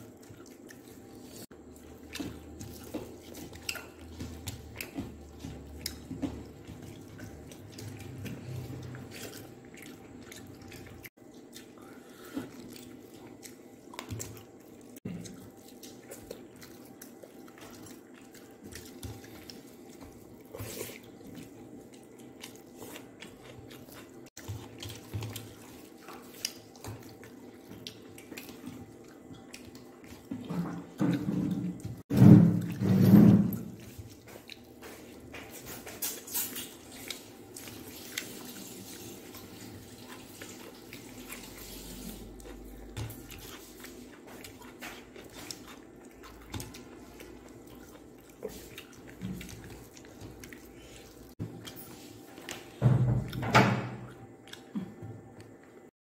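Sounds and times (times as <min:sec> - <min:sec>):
chewing: 0:00.0 - 0:53.4, 0:54.0 - 0:55.9.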